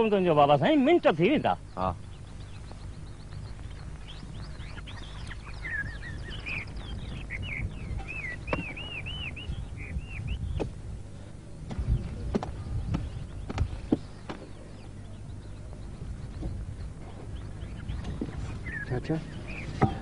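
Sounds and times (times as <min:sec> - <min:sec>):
birds chirping: 0:00.0 - 0:20.0
low steady hum: 0:00.0 - 0:20.0.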